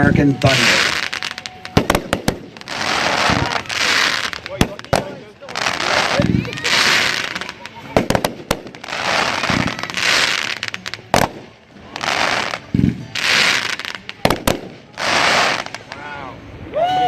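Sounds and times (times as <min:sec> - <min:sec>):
fireworks hissing: 0:00.0 - 0:16.4
firework shells bursting: 0:00.5 - 0:16.0.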